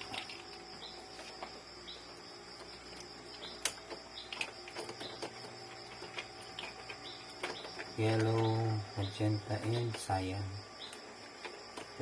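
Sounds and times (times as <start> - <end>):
high-pitched background whine: 0.0 - 12.0.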